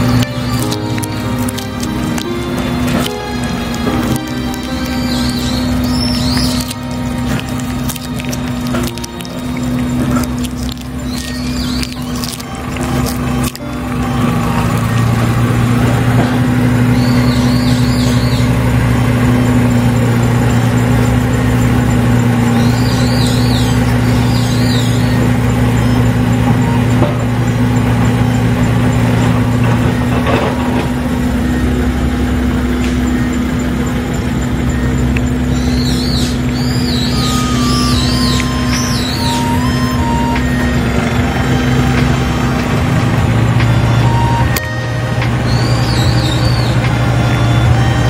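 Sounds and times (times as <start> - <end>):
birds chirping: 0.0 - 48.0
engine idling: 0.0 - 48.0.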